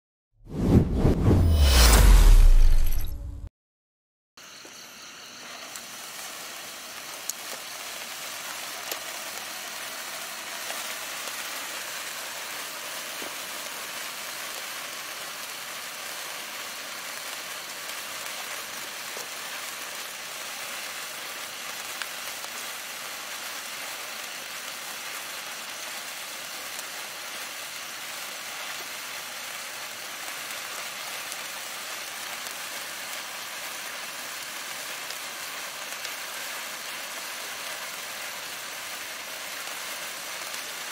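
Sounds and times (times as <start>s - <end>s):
sparklers fizzing and crackling: 5.4s - 40.9s.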